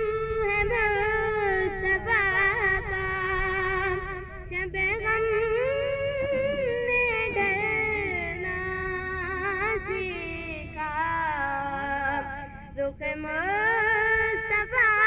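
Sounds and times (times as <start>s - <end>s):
solo voice singing held notes: 0.0s - 15.0s.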